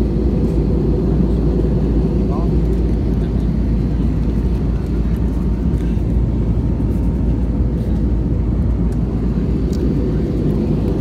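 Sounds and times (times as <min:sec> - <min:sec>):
engine and airflow rumble: 0:00.0 - 0:11.0.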